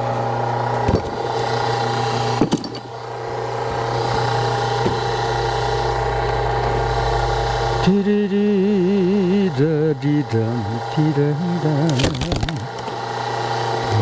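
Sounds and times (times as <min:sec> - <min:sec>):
log splitter engine running: 0:00.0 - 0:14.0.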